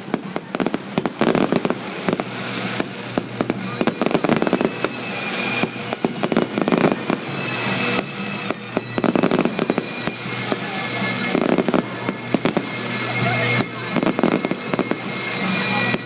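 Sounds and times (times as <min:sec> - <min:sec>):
steady hiss: 0:00.0 - 0:15.8
fireworks crackling and banging: 0:00.0 - 0:16.0.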